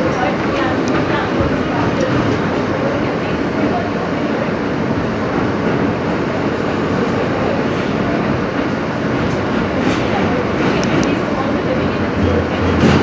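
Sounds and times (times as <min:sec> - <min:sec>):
subway car body rattling: 0:00.0 - 0:13.0
subway wheels rolling on rails: 0:00.0 - 0:13.0.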